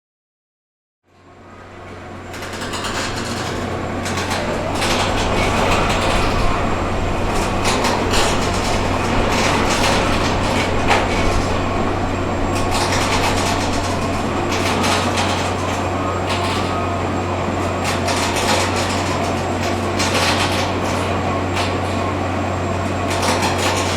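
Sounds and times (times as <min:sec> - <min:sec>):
low machine drone: 0:01.2 - 0:23.9
construction knocks and clatter: 0:01.7 - 0:23.9.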